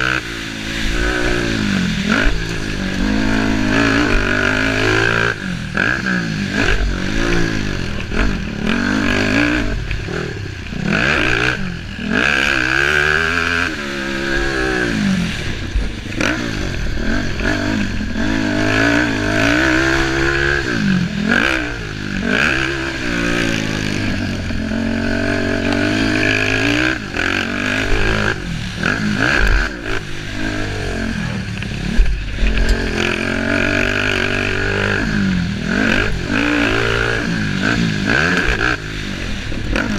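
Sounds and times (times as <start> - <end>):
racing engines revving: 0.0 - 39.9.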